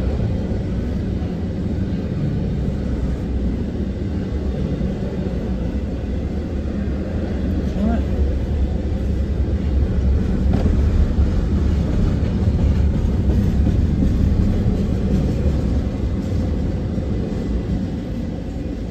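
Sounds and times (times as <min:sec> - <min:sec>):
freight train wheels rumbling on rail: 0:00.0 - 0:18.9.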